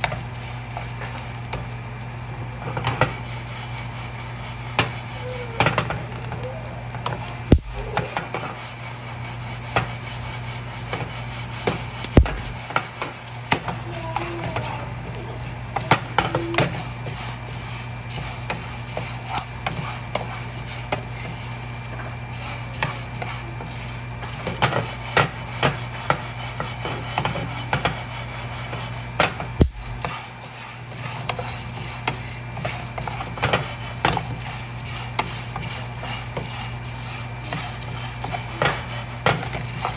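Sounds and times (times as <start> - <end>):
seeds rattling in a frying pan: 0.0 - 39.9
steady low hum: 0.0 - 39.9.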